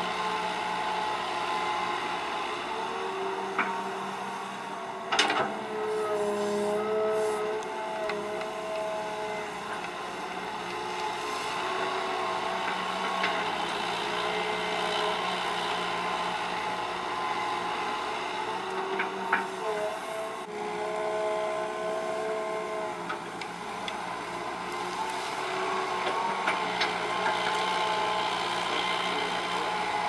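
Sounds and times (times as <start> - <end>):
excavator diesel engine under load: 0.0 - 30.0.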